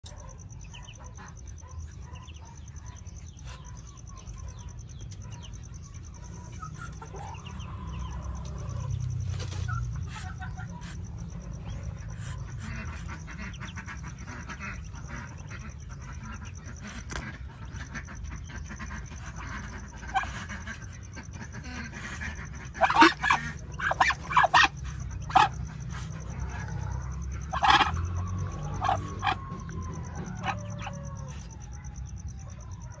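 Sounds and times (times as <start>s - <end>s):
faint duckling peeps and calls: 0.0s - 33.0s.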